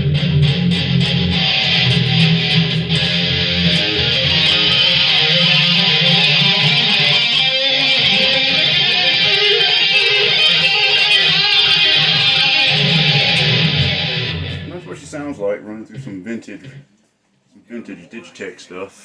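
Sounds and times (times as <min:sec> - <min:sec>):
electric guitar playing: 0:00.0 - 0:15.3.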